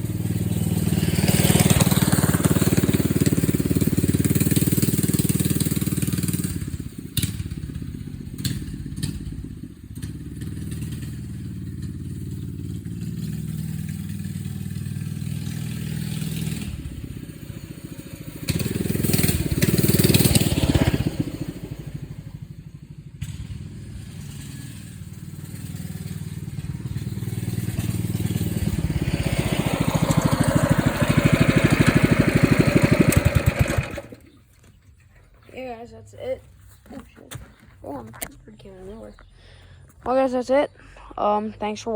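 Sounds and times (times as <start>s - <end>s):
minibike engine revving: 0.0s - 36.2s.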